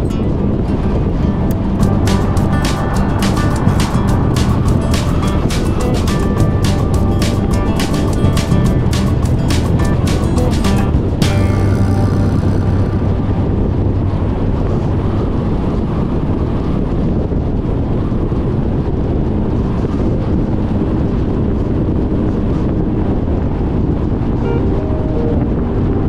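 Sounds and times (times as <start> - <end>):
road and wind noise in car: 0.0 - 26.0.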